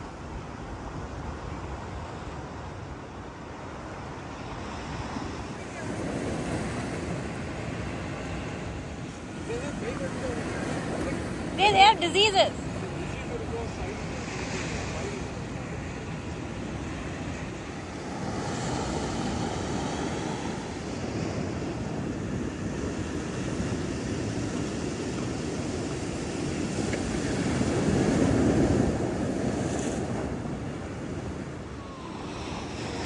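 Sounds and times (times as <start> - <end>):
ocean surf washing onto beach: 0.0 - 33.0.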